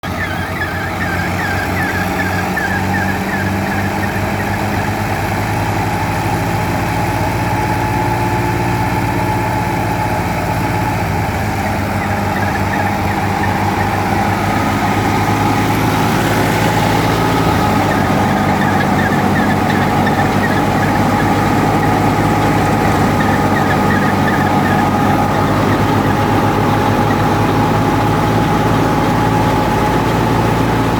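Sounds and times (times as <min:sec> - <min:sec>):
engine drone: 0:00.0 - 0:30.9
higher whine: 0:00.0 - 0:30.9.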